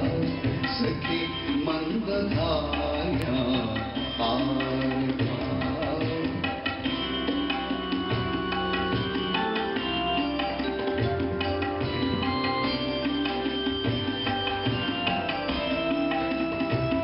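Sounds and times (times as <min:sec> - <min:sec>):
sustained instrumental tones: 0:00.0 - 0:17.0
tabla playing: 0:00.0 - 0:17.0.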